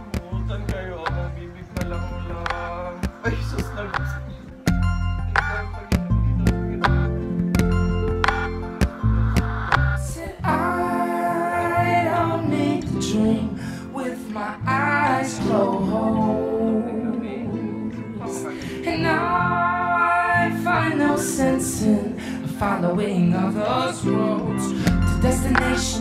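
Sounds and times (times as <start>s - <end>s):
song with voice and guitar: 0.0s - 26.0s.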